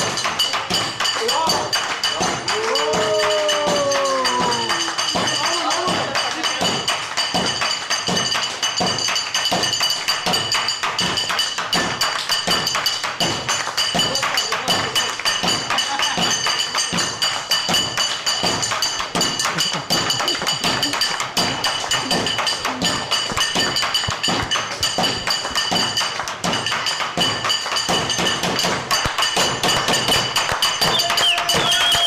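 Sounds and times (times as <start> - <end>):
music with percussion beat: 0.0 - 32.0.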